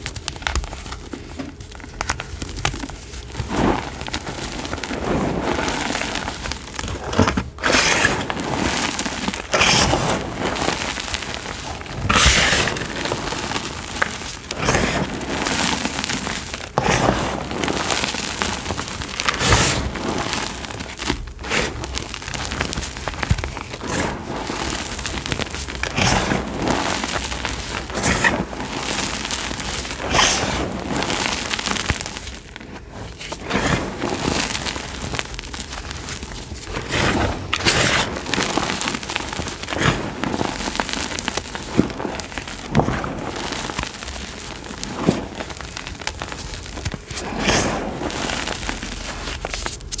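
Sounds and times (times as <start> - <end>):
chalk crunching: 0.0 - 50.0.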